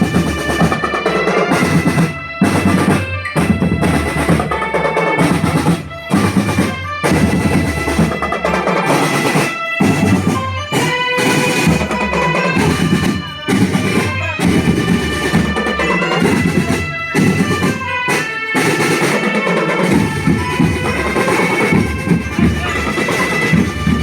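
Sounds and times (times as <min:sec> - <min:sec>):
marching drums beating: 0:00.0 - 0:24.0.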